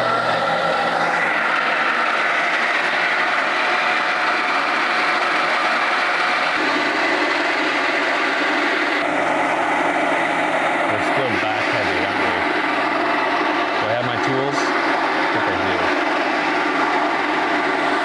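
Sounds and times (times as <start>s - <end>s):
circular sawmill running: 0.0s - 18.0s.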